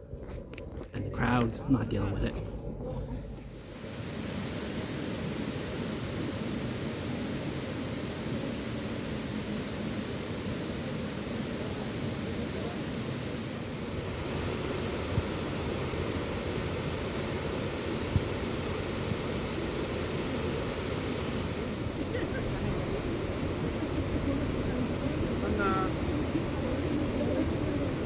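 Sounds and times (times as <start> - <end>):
waterfall roaring: 3.1 - 28.0.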